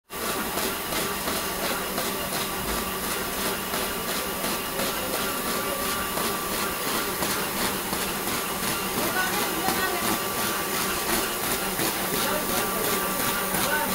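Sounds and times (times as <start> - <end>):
printing machine clattering: 0.1 - 13.9.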